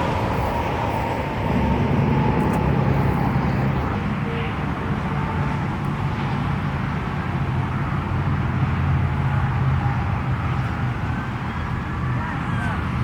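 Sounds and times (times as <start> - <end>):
freeway traffic rumble: 0.0 - 13.0.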